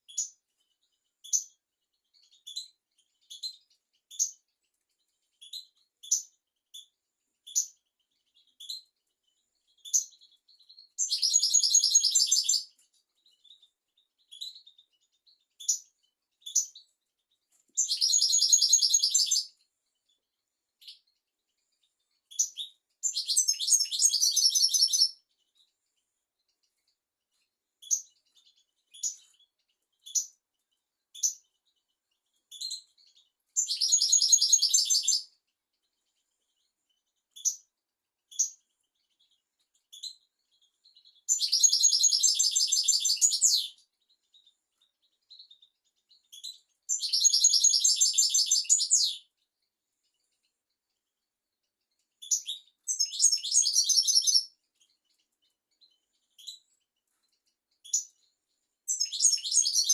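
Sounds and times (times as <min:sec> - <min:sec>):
goldfinch chirps: 0:00.0 - 0:59.9.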